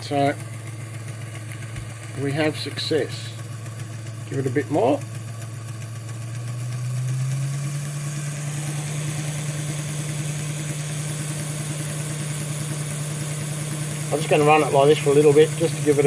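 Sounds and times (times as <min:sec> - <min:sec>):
small electric motor humming: 0:00.0 - 0:16.0.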